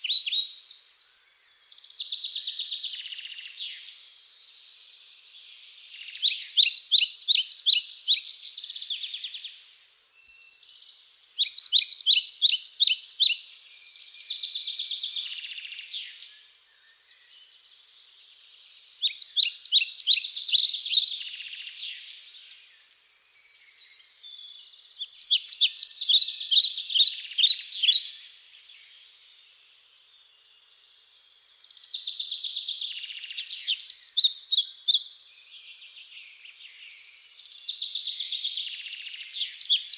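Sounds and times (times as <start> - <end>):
faint bird chirps: 0.0 - 39.9
songbird singing with trill: 0.0 - 39.9.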